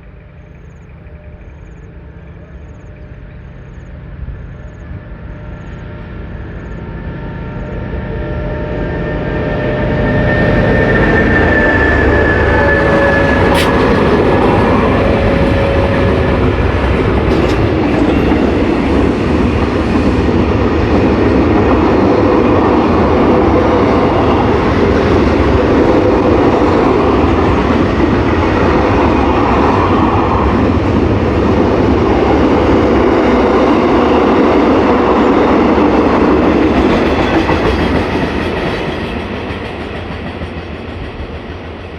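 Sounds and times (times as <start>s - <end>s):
freight train rumbling past: 0.0s - 41.9s.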